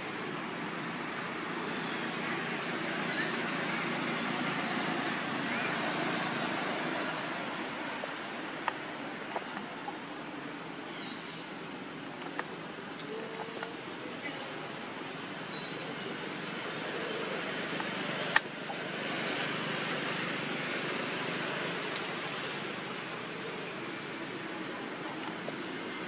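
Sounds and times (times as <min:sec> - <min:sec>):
high-pitched insect drone: 0:00.0 - 0:26.0
outdoor background hiss: 0:00.0 - 0:26.0.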